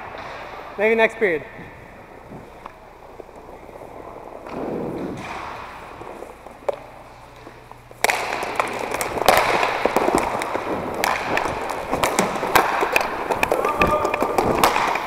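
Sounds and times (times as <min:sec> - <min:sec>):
skate wheels rolling on plastic floor: 0:00.0 - 0:15.0
clatter of sticks and puck: 0:02.0 - 0:15.0.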